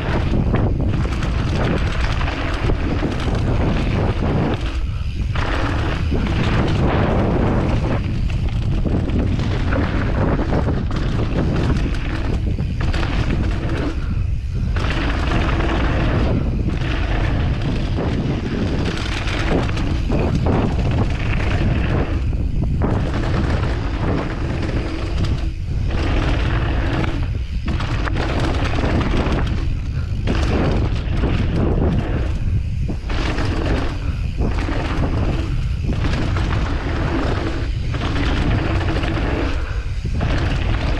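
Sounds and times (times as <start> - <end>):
tyres rumbling over dirt: 0.0 - 40.9
wind buffeting microphone: 0.0 - 40.9.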